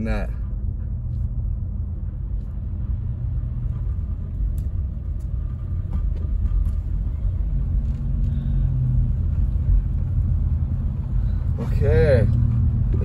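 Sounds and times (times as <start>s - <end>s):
car driving on slushy road: 0.1s - 13.0s.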